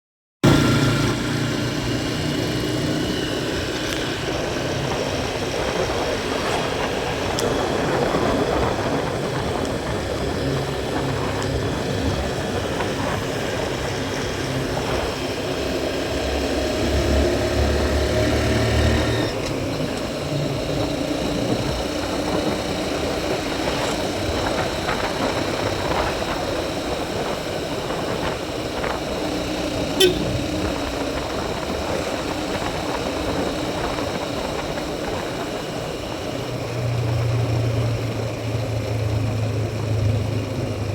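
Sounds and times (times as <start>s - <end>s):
motorbike engine running: 0.4s - 40.9s.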